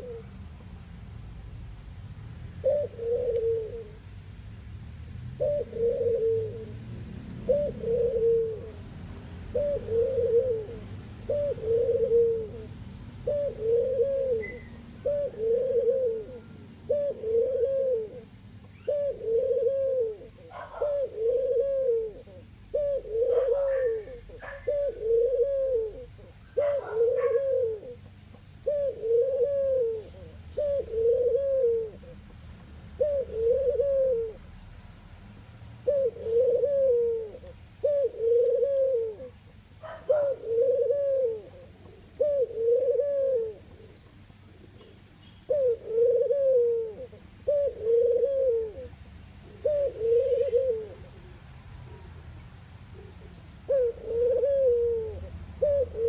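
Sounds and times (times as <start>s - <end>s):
dove cooing: 0.0s - 0.4s, 2.6s - 4.0s, 5.4s - 34.6s, 35.8s - 52.2s, 52.8s - 56.0s.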